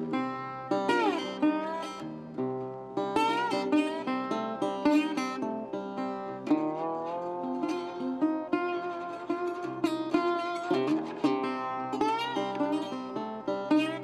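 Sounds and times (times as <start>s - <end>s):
plucked string instrumental music: 0.0s - 14.0s.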